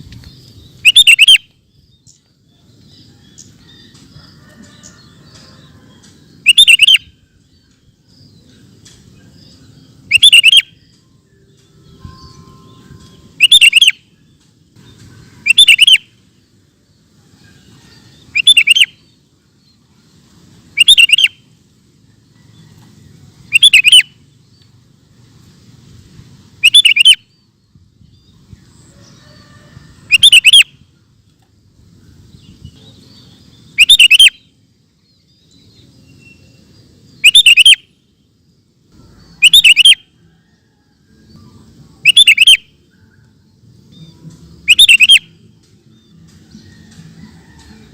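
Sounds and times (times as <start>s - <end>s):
bulbul singing: 0.0s - 24.9s, 26.6s - 29.2s, 30.1s - 40.5s, 41.1s - 47.9s.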